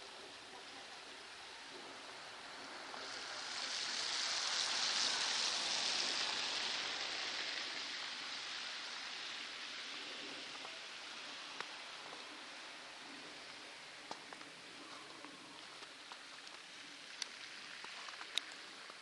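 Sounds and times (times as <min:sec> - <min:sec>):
tyres hissing through wet slush: 0:00.0 - 0:19.0.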